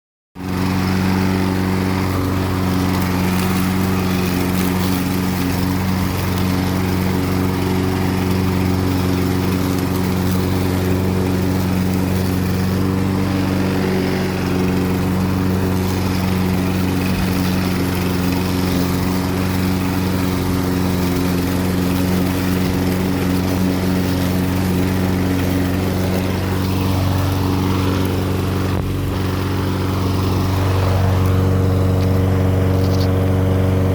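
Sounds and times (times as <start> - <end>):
lawn mower engine running: 0.4 - 33.9.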